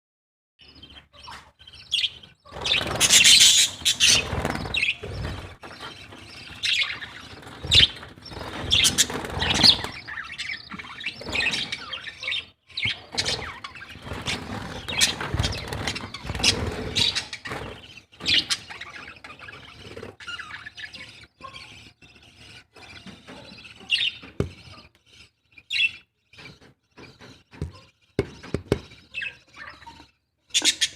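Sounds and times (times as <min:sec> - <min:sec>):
birds chirping: 0:00.6 - 0:30.9.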